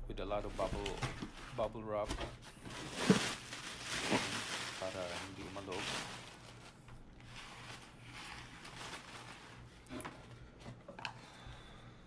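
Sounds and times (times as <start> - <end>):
cardboard box and plastic rustling: 0.4 - 10.8.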